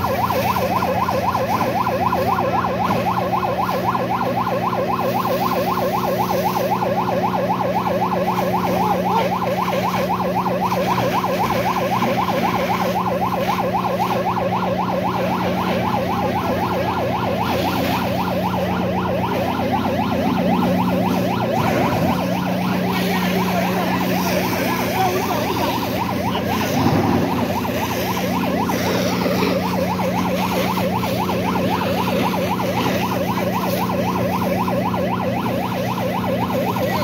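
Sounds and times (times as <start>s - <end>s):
siren yelping: 0.0s - 37.0s
steady low drone: 0.0s - 37.0s.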